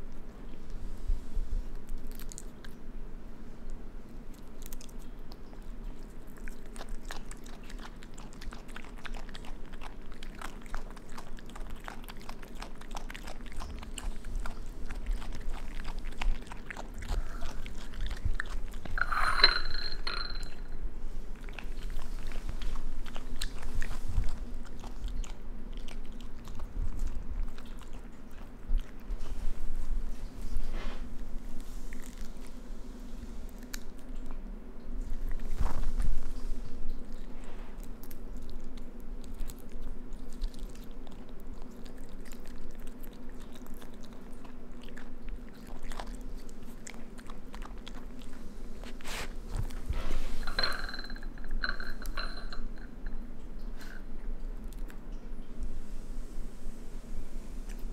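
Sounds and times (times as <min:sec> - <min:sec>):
animal chewing and crunching insects: 0:01.8 - 0:02.9, 0:03.5 - 0:55.8.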